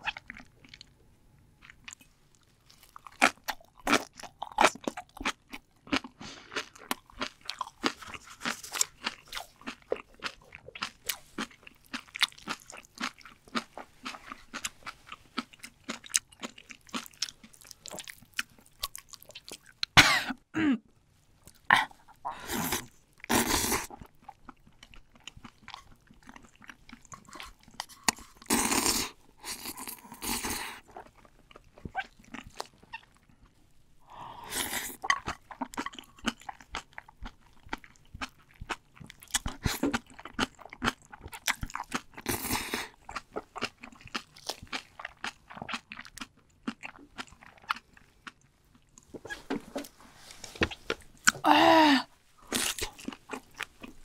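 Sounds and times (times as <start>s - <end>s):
crunching and chewing: 0.0s - 1.0s, 1.6s - 20.0s, 22.7s - 33.7s, 34.6s - 51.4s, 52.4s - 54.0s.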